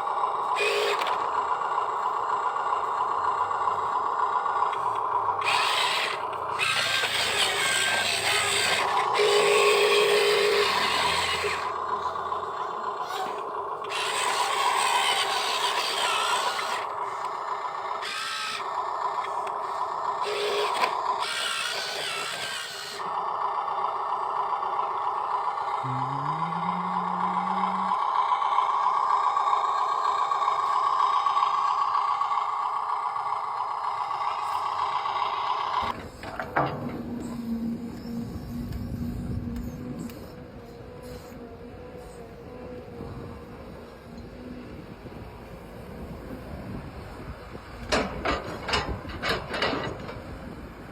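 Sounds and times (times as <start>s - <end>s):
small electric motors whining: 0.0s - 50.9s.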